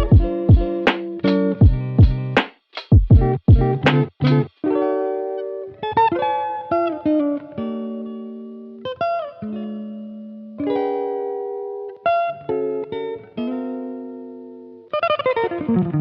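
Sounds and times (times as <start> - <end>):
guitar chords ringing: 0.0 - 2.4, 3.0 - 16.0.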